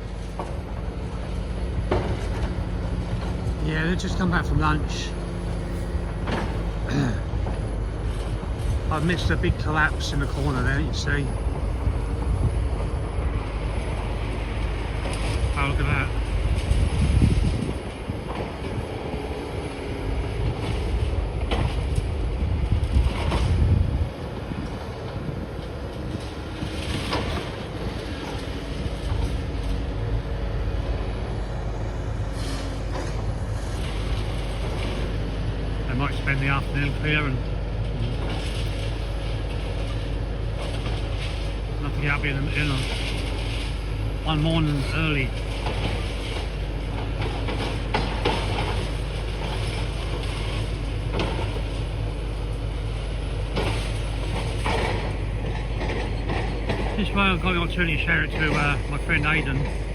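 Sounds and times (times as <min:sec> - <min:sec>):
excavator engine drone: 0:00.0 - 0:59.9.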